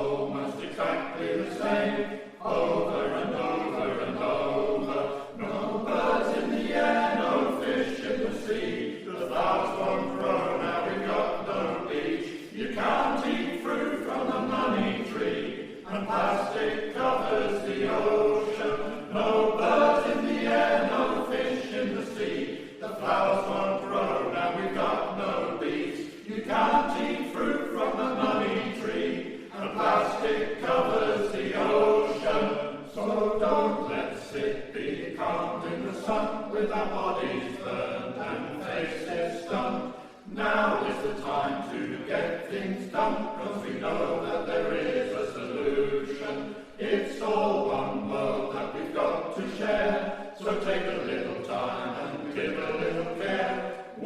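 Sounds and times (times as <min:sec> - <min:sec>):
male voice choir singing: 0:00.0 - 0:54.0.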